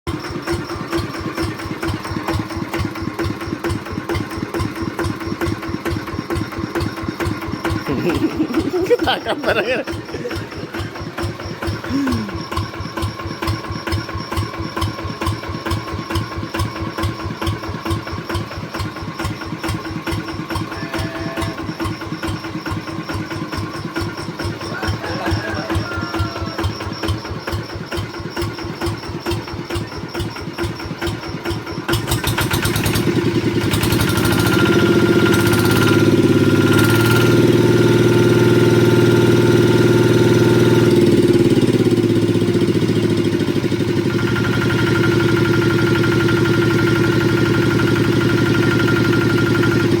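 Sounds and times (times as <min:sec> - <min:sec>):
diesel engine idling and revving: 0:00.1 - 0:50.0.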